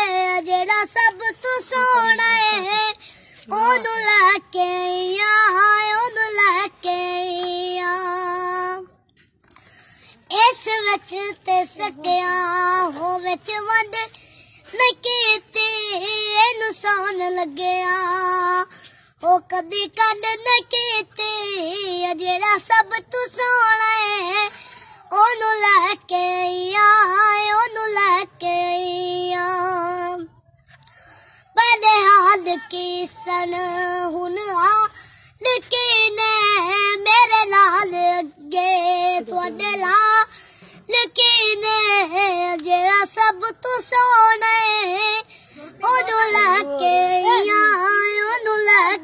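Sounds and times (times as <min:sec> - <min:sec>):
boy singing devotional song: 0:00.0 - 0:49.0.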